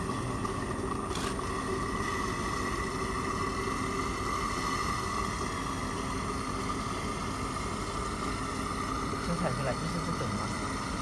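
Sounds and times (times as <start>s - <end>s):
machine hum with whine: 0.0s - 11.0s.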